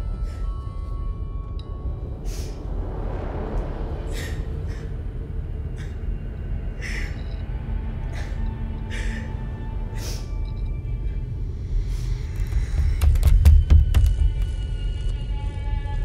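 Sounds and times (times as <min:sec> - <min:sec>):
low droning horror score: 0:00.0 - 0:16.0.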